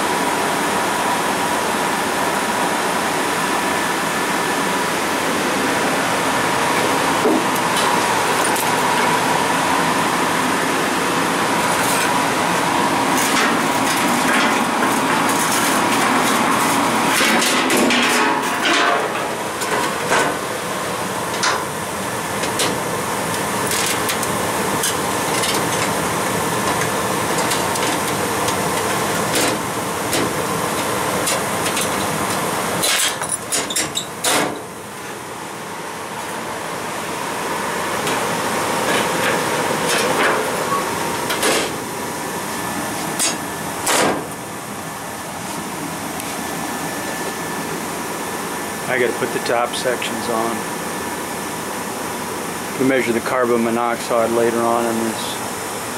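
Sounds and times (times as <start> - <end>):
furnace air rushing: 0.0 - 55.9.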